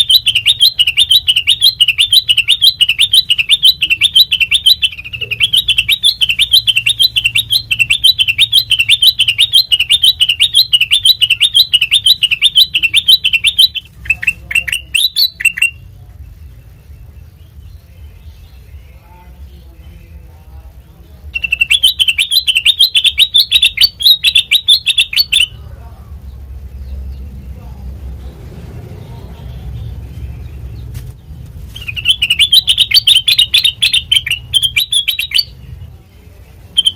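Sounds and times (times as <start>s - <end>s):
bird chirping: 0.0s - 36.9s.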